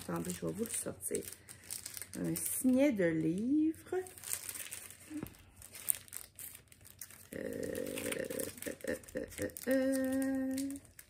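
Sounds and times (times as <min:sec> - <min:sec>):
gift packaging crinkling: 0:00.0 - 0:11.0.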